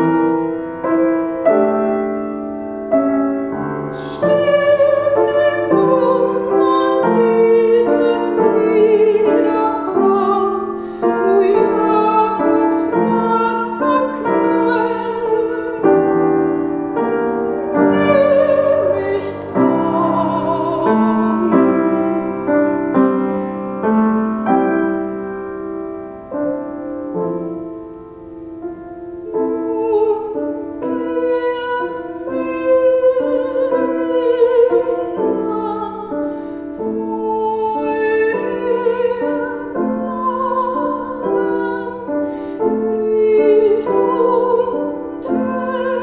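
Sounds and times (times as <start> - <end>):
piano: 0.0 - 46.0
woman singing classical song: 0.0 - 46.0.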